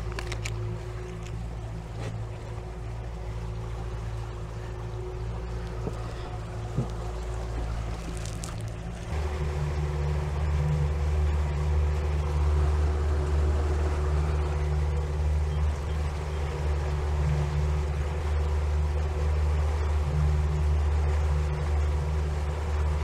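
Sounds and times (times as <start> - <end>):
boat motor droning: 0.0 - 23.0.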